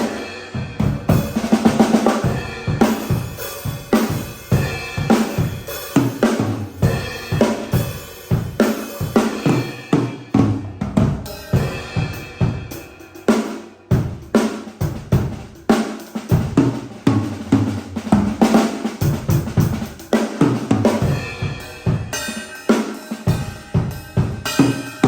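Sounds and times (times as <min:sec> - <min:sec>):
drum kit groove with fills: 0:00.0 - 0:25.0.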